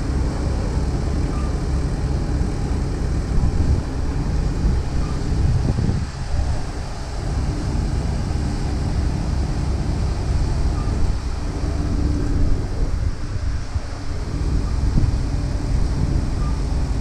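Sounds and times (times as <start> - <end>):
wind buffeting microphone: 0.8 - 17.0.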